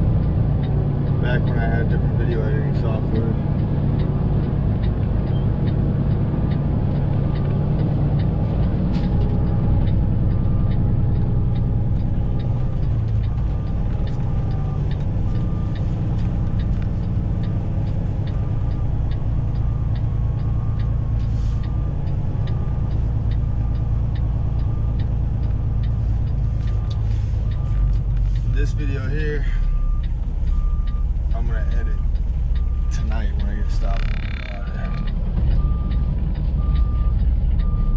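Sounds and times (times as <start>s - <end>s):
diesel truck engine running: 0.0s - 37.9s
regular ticking: 0.0s - 37.9s.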